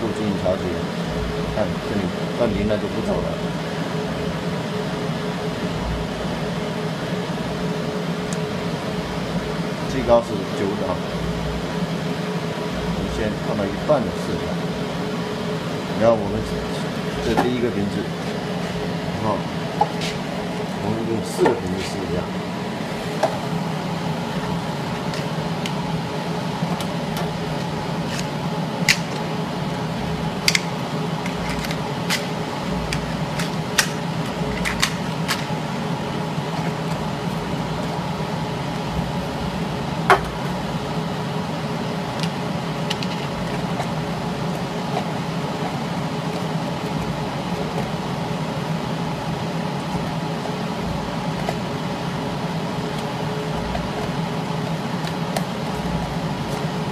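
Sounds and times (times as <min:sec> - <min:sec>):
machine fan whirr and hum: 0:00.0 - 0:56.9.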